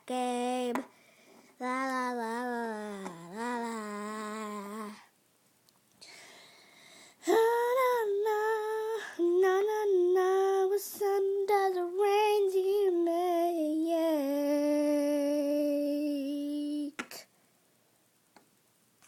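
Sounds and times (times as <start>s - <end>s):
girl singing wordless melody: 0.0s - 5.2s, 6.0s - 17.4s.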